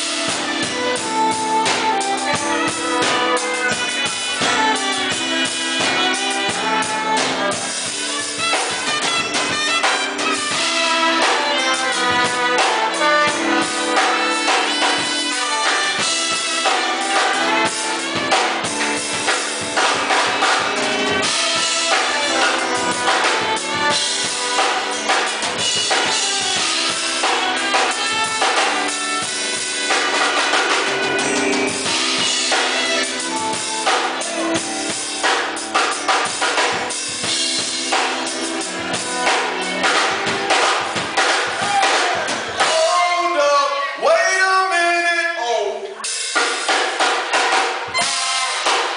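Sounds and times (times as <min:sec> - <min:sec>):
violin: 0:00.0 - 0:42.8
trombone: 0:00.0 - 0:43.1, 0:45.9 - 0:48.9
drum kit steady beat: 0:00.0 - 0:43.2, 0:46.0 - 0:48.9
saxophone: 0:00.0 - 0:44.0, 0:45.8 - 0:48.9.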